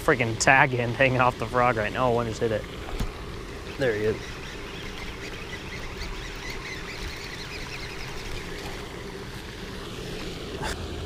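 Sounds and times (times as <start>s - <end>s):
rushing water: 0.0s - 11.0s
wind: 0.0s - 11.0s.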